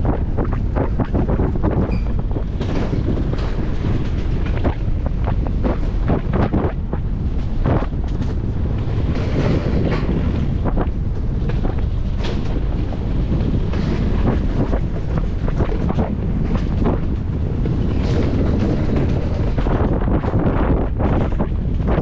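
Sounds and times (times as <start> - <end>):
bobsled rumbling on track: 0.0 - 22.0
sled rattling and clacking: 0.0 - 22.0
wind buffeting microphone: 0.0 - 22.0.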